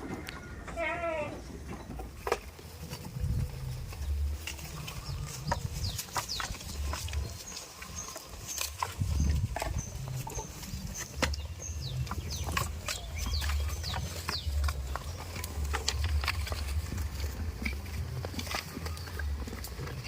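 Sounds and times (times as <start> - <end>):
small birds chirping: 1.6 - 20.0.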